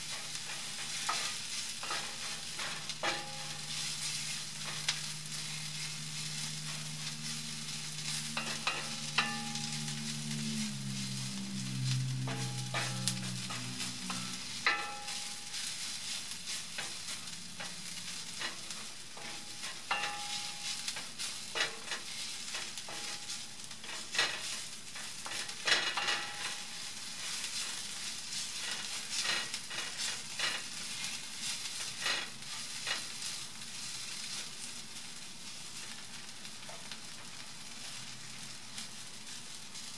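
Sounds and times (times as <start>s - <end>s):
spatula scraping a pan: 0.0s - 34.6s
onions sizzling in oil: 0.0s - 39.9s.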